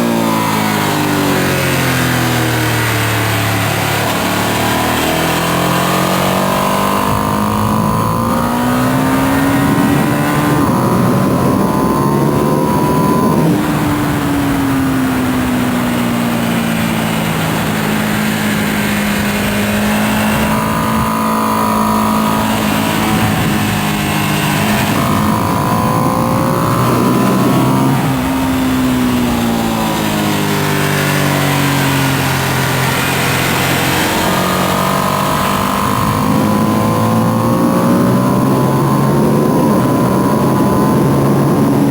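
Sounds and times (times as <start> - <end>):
motorcycle engine revving: 0.0 - 41.9
rush of wind: 0.0 - 41.9.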